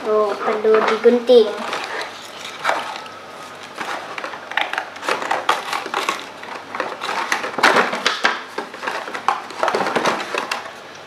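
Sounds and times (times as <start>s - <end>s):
cardboard tearing and rustling: 1.5s - 10.8s.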